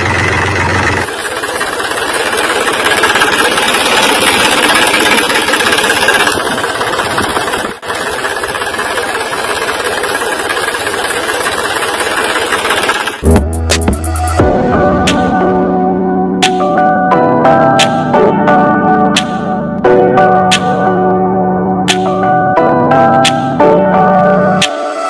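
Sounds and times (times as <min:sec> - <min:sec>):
engine running loudly: 0:00.0 - 0:25.0.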